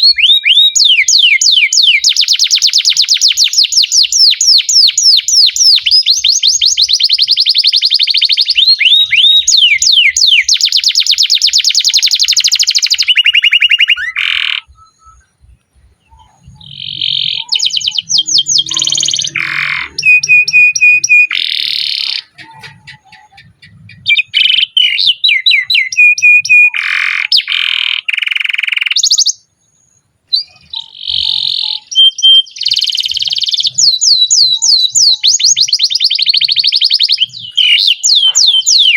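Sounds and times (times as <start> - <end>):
canary trilling: 0.0 - 15.3, 16.0 - 29.5, 30.3 - 38.9.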